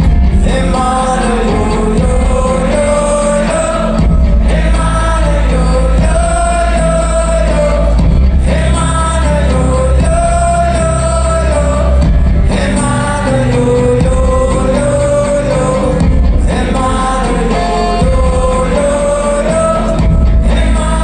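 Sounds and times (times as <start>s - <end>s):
acoustic guitar: 0.0s - 21.0s
low bass drone: 0.0s - 21.0s
man singing: 0.0s - 21.0s.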